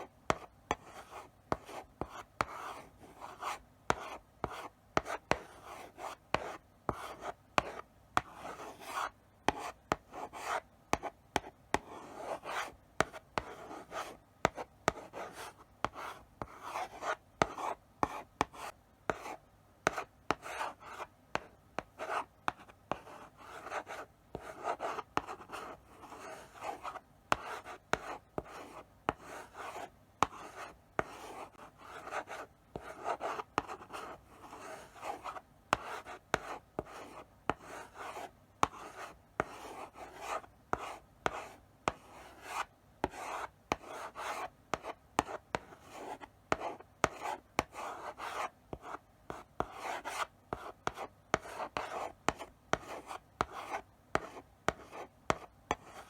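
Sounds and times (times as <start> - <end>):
chalk tapping on board: 0.3 - 19.3, 19.9 - 29.6, 32.0 - 56.0
chalk scratching on blackboard: 0.3 - 56.0.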